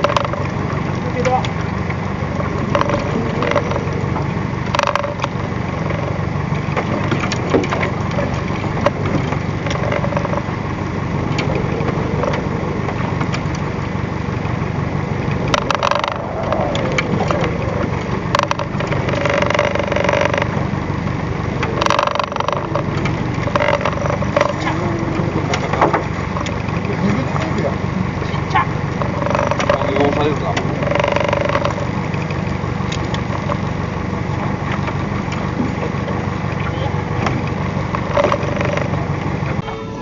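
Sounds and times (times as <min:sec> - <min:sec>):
boat engine rumbling: 0:00.0 - 0:40.0.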